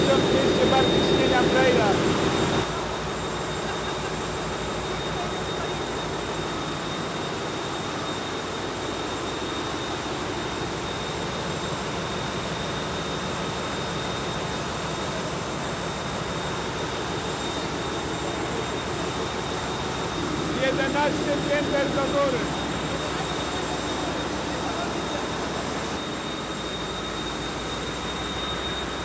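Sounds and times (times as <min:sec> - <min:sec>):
thin high whistle: 0:00.0 - 0:29.0.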